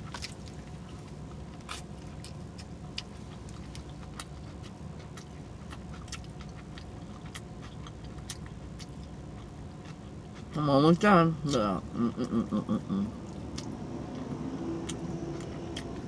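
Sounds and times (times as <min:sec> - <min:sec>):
wet open-mouth chewing: 0:00.0 - 0:10.6, 0:13.2 - 0:16.0
steady low hum: 0:00.0 - 0:16.0.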